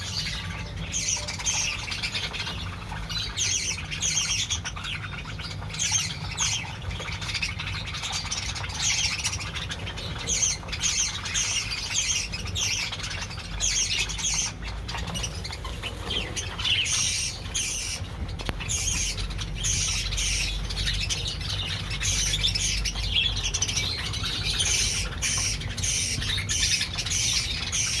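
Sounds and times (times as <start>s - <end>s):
budgerigars chirping and squawking: 0.0s - 28.0s
low steady hum: 0.0s - 28.0s.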